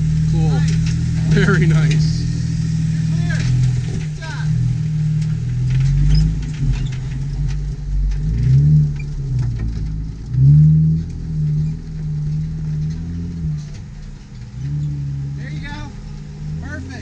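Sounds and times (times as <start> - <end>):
car engine running at low revs: 0.0 - 17.0
engine revving: 0.0 - 17.0.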